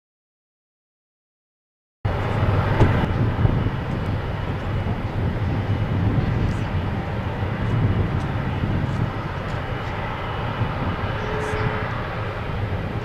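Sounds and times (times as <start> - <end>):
jet engines rumbling with whine: 2.1 - 13.0.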